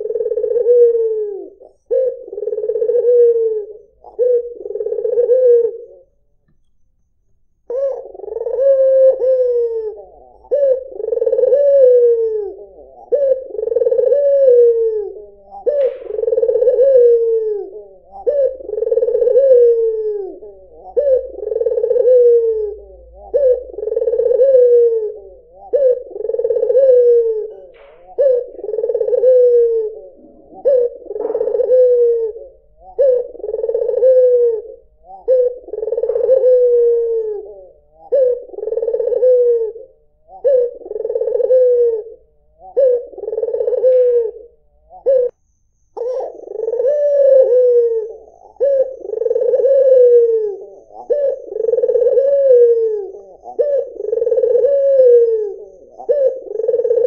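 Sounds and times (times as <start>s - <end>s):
dove cooing: 0.0s - 6.2s, 7.6s - 57.0s.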